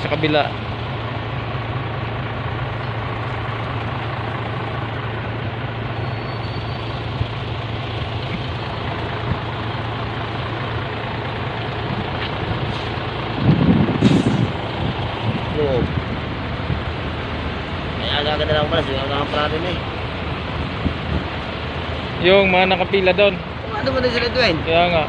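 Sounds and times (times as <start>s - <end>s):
low rumble: 0.0s - 23.7s
truck engine idling: 0.0s - 25.0s.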